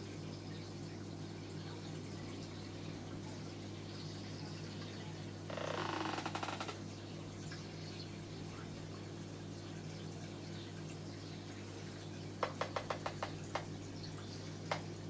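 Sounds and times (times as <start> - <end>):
aquarium filter humming: 0.0 - 15.0
water gurgling: 0.0 - 15.0.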